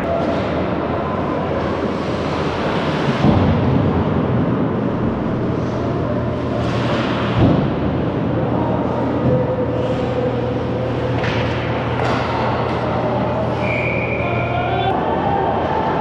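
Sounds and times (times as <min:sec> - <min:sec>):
low rumble and hum: 0:00.0 - 0:16.0.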